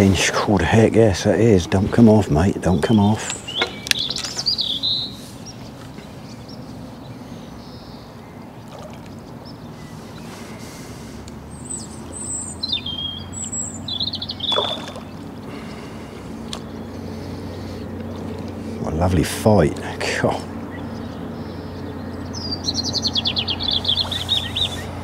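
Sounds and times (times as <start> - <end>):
low background rumble: 0.0 - 25.0
small birds chirping: 0.0 - 25.0.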